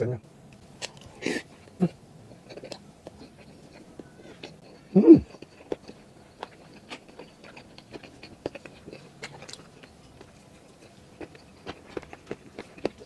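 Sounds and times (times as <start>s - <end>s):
person chewing food: 0.8s - 13.0s.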